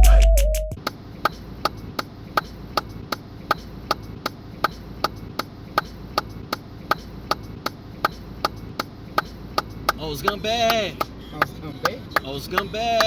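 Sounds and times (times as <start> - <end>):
turn signal ticking: 1.6 - 13.0.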